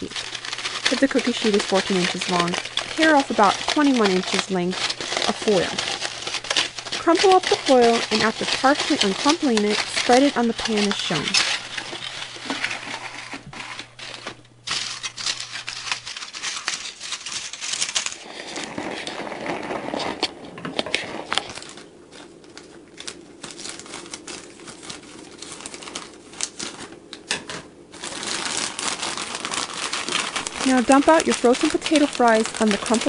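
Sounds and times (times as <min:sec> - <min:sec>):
aluminium foil crinkling: 0:00.0 - 0:33.0
plastic bag crinkling: 0:00.0 - 0:33.0.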